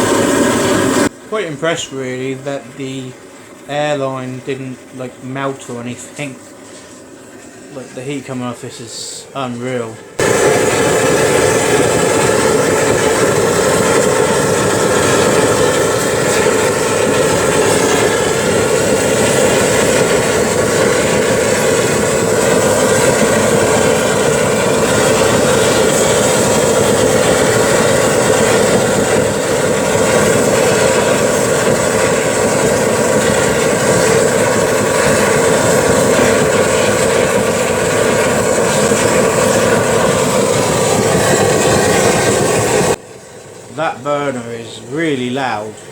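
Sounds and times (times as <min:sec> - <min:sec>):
faint steady whine: 0:00.0 - 0:45.9
oil burner roaring: 0:00.0 - 0:45.9.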